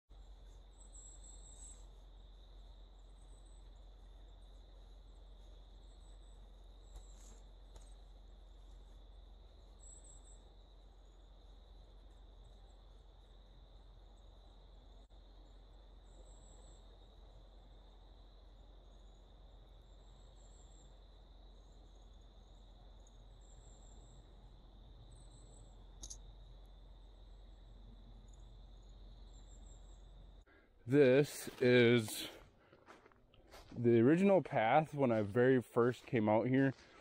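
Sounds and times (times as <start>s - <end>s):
insect chorus: 0.1s - 37.0s
high insect chirps: 0.2s - 32.2s.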